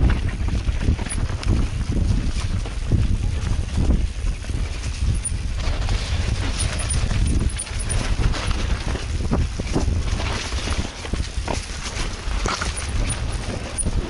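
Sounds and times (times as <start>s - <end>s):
bike rattling and knocking: 0.0s - 14.0s
wind rumble on microphone: 0.0s - 14.0s.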